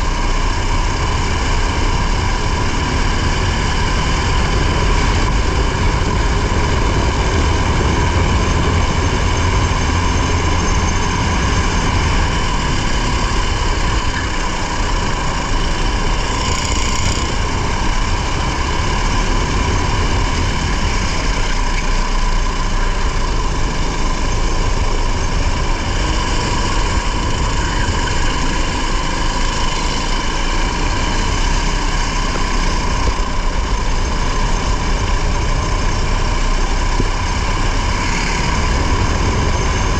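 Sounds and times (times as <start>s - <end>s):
continuous rushing noise: 0.0s - 39.9s
race engine running steadily: 0.0s - 39.9s.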